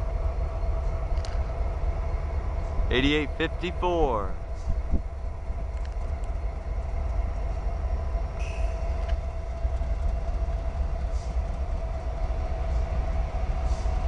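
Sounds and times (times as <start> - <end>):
constant whine: 0.0 - 14.0
locomotive engine rumble: 0.0 - 14.0.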